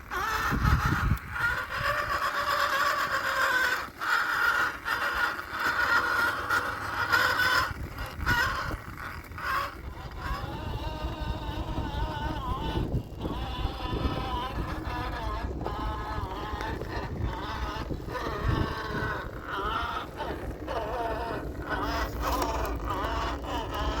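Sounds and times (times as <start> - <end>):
electric motor and gears whining: 0.0 - 24.0.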